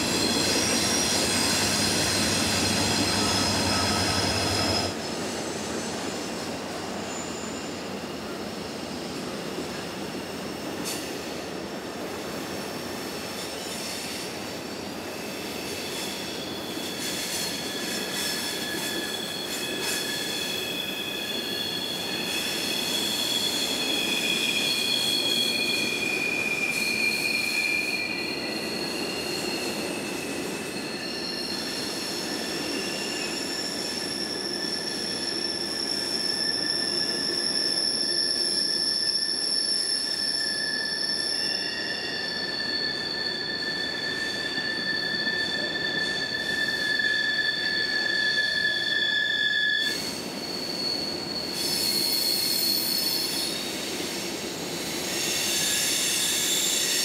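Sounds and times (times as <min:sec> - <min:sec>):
train wheels squealing: 0:00.0 - 0:57.0.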